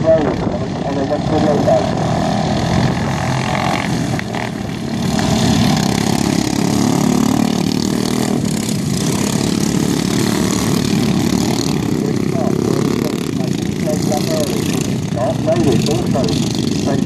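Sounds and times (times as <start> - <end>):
ride-on lawn mower engines racing: 0.0 - 17.0.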